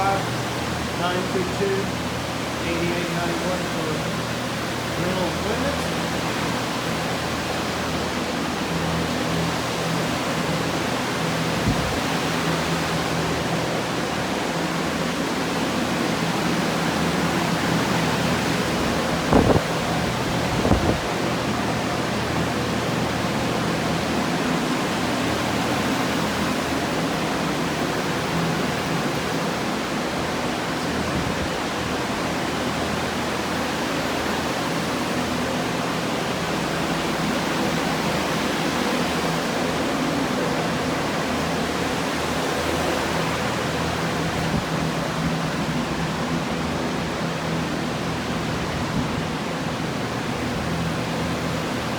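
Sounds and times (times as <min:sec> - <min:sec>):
drying fans running: 0:00.0 - 0:51.9.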